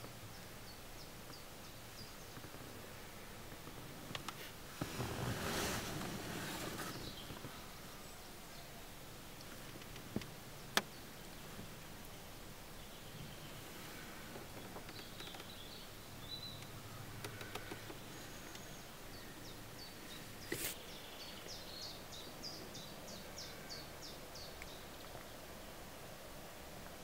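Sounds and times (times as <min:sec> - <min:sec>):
faint woodland ambience: 0:00.0 - 0:27.0
songbird singing: 0:00.0 - 0:27.0.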